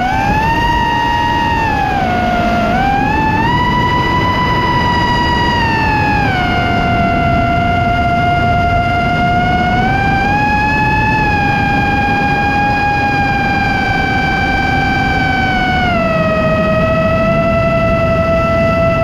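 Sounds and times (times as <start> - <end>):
drone motors whining: 0.0 - 19.0
rushing noise: 0.0 - 19.0.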